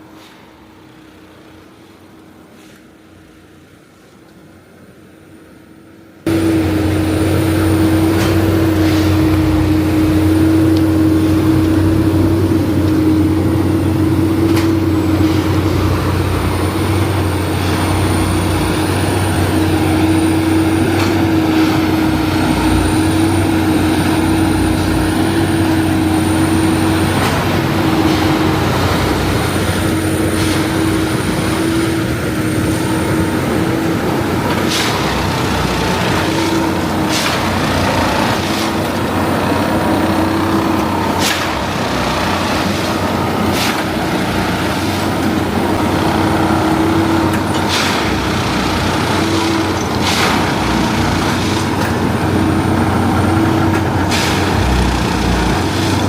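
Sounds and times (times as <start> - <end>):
machine drone with high whine: 6.2 - 56.0.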